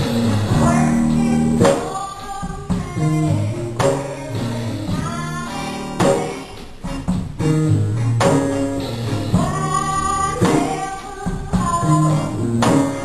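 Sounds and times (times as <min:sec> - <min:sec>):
women singing: 0:00.0 - 0:07.2, 0:09.2 - 0:13.0
instrumental band backing: 0:00.0 - 0:13.0.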